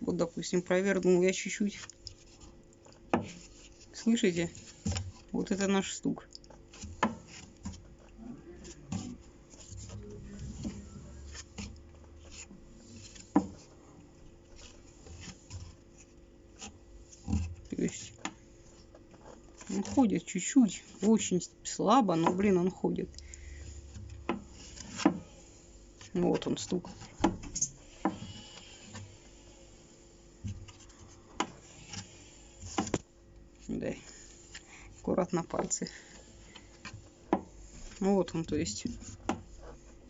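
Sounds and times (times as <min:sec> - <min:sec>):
rubbing: 0:00.3 - 0:05.9, 0:06.5 - 0:40.0.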